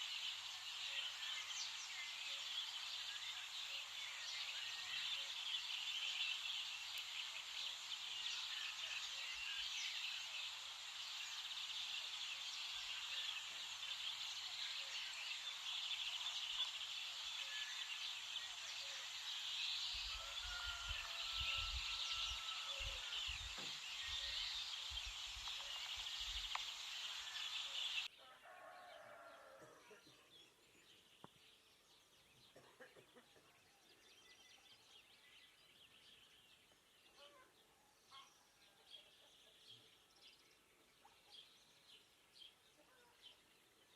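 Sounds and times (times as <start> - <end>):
small birds singing and chirping: 0.0 - 43.9.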